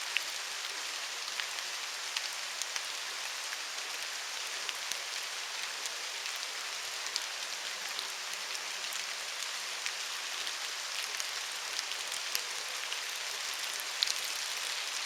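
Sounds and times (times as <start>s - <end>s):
steady rain in woods: 0.0s - 15.0s
raindrops ticking close by: 0.1s - 15.0s.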